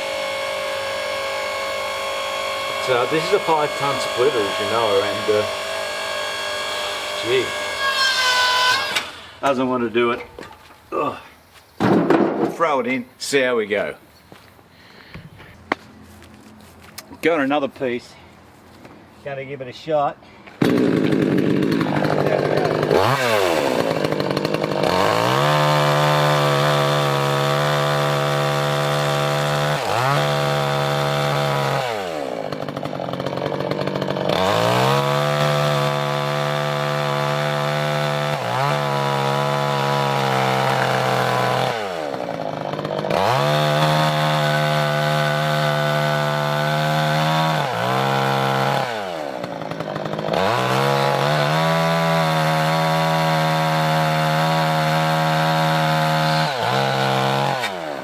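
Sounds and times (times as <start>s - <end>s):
chainsaw cutting wood: 0.0s - 10.8s, 20.4s - 58.0s.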